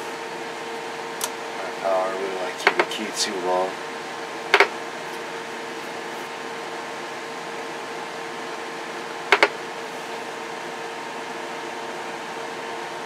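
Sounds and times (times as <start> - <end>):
equipment fans humming: 0.0 - 13.0.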